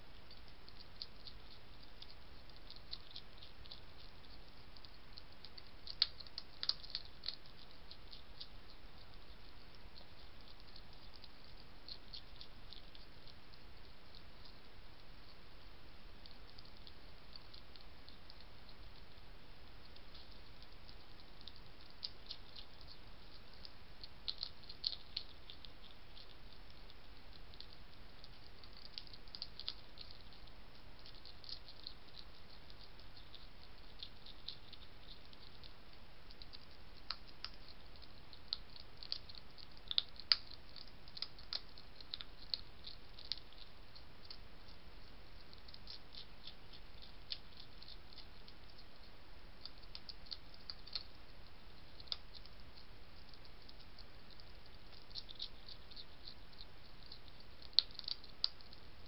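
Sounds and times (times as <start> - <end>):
faint hiss: 0.0 - 59.0
hedgehog crunching dry food: 0.0 - 59.0.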